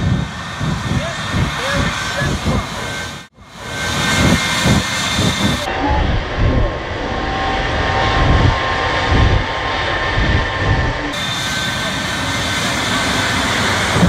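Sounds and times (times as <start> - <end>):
high whine: 0.0 - 14.0
jet engines at full power: 0.0 - 14.0.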